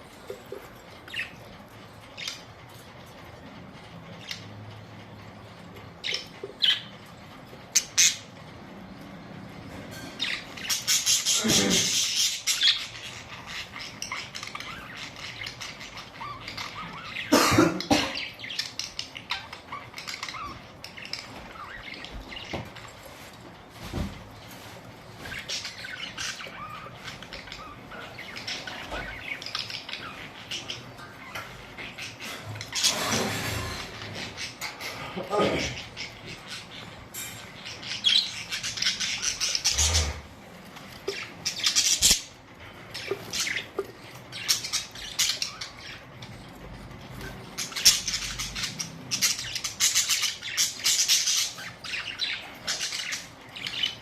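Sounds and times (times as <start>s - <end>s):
budgerigars chirping: 6.0s - 7.1s, 10.1s - 23.3s, 24.6s - 54.0s.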